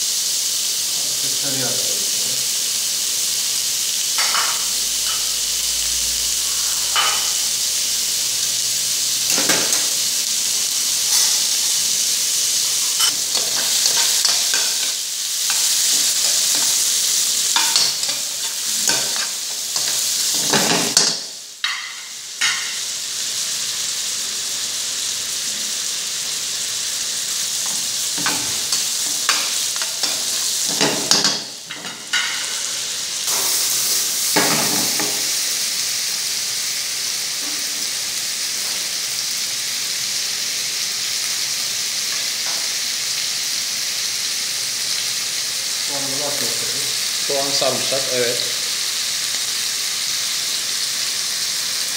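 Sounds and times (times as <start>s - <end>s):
meat sizzling in a frying pan: 0.0s - 51.9s.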